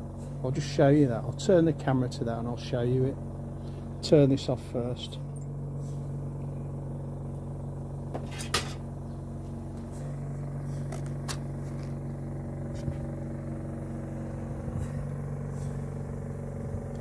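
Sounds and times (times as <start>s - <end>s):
compressor humming: 0.0s - 17.0s.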